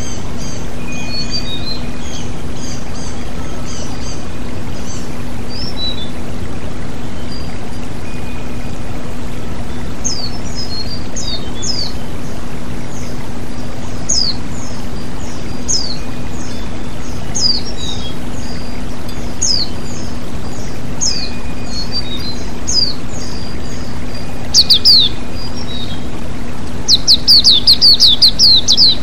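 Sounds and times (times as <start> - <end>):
songbird whistling: 0.0 - 6.2, 7.0 - 26.2, 26.8 - 29.0
waterfall pouring over rocks: 0.0 - 29.0.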